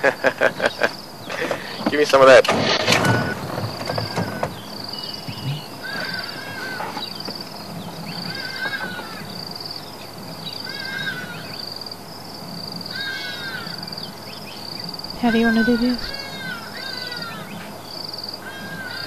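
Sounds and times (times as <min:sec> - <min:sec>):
bird harsh call: 0:00.0 - 0:11.8, 0:12.4 - 0:19.0
pulsing insect trill: 0:00.0 - 0:19.0.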